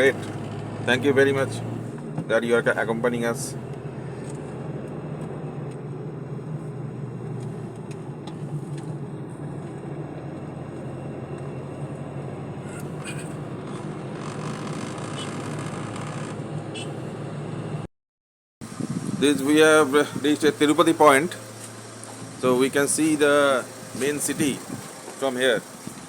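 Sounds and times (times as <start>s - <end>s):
car engine and road noise: 0.0s - 17.9s, 18.6s - 26.0s.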